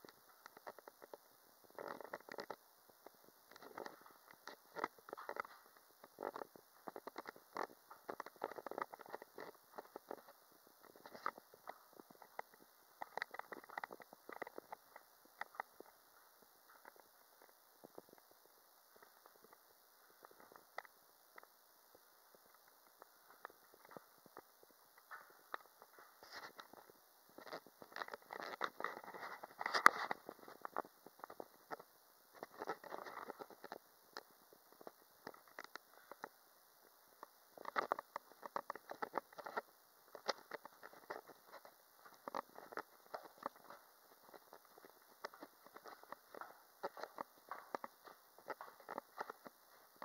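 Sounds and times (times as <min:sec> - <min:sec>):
camera microphone crackling and rattling: 0:00.0 - 0:50.0.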